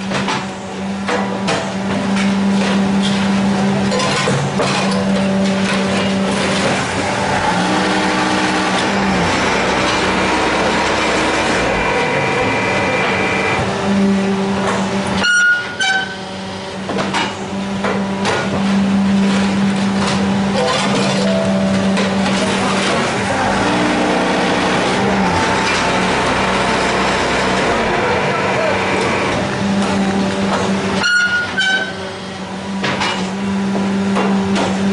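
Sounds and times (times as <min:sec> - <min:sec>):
machinery humming: 0:00.0 - 0:34.9.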